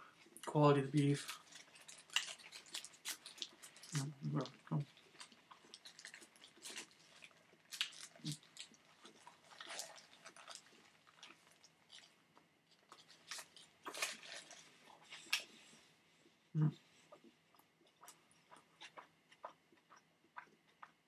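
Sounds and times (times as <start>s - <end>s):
person chewing burger: 1.2s - 15.9s, 17.0s - 21.0s.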